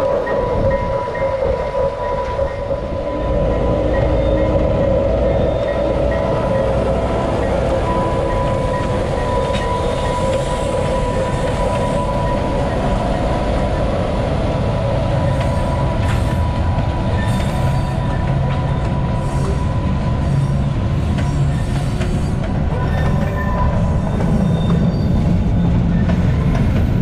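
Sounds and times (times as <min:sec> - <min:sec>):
freight cars rumbling: 0:00.0 - 0:27.0
high wheel squeal: 0:00.2 - 0:14.0, 0:15.0 - 0:27.0.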